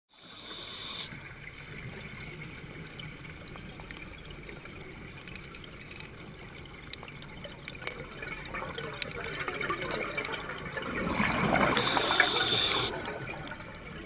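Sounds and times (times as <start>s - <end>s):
water trickling: 0.2s - 14.0s.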